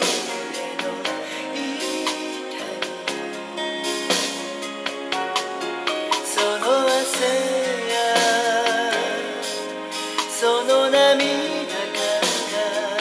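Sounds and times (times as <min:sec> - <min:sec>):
instrumental accompaniment: 0:00.0 - 0:13.0
person singing a song: 0:00.0 - 0:13.0.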